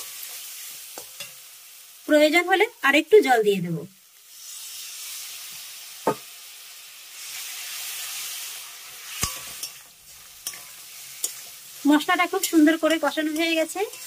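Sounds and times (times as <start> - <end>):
sauce sizzling in hot oil: 0.0 - 14.0.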